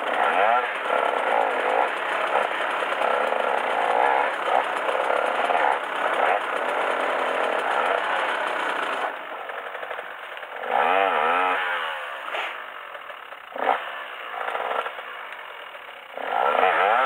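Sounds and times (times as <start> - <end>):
dirt bike engine buzzing: 0.0 - 17.0.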